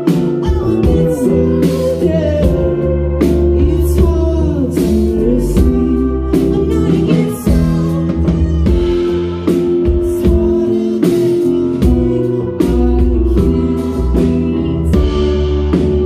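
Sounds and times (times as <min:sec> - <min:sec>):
rock band playing live: 0:00.0 - 0:16.0
woman singing: 0:00.0 - 0:16.0.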